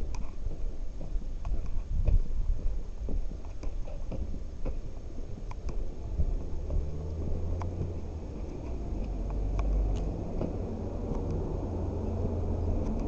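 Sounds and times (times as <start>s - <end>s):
footsteps of person walking: 0.0s - 13.0s
low rumble of wind or traffic: 0.0s - 13.0s.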